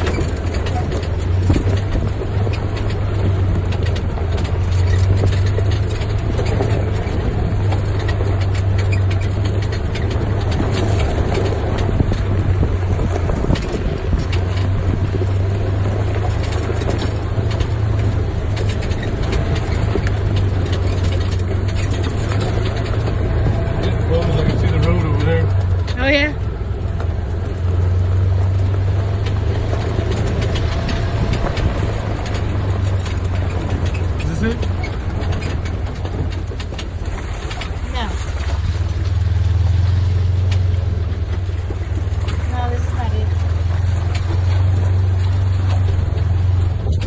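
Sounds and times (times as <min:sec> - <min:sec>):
low engine drone: 0:00.0 - 0:47.0
vehicle knocking and rattling: 0:00.0 - 0:47.0.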